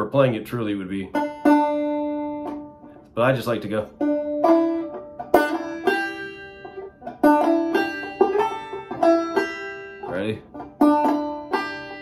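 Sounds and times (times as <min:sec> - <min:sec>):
banjo picked clawhammer style: 0:00.0 - 0:12.0.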